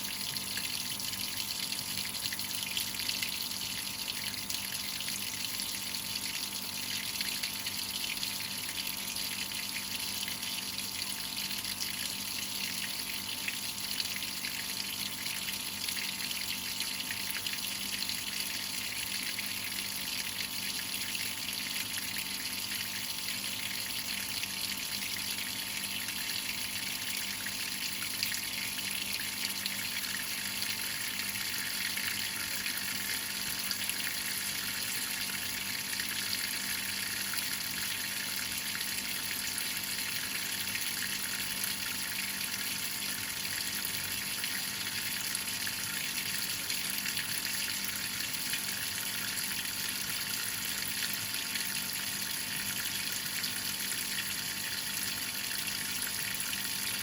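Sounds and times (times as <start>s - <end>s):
water running in washing machine: 0.0s - 57.0s.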